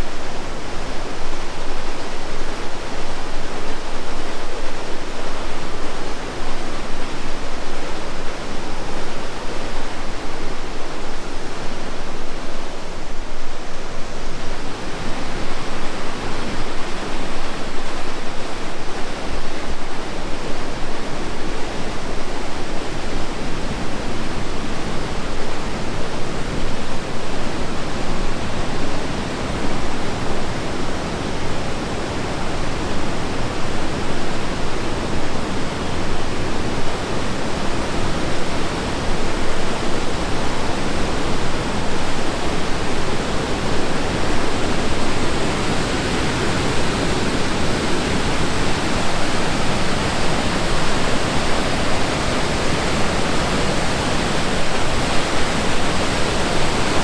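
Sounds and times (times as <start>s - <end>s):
waterfall and rapids rushing: 0.0s - 57.0s.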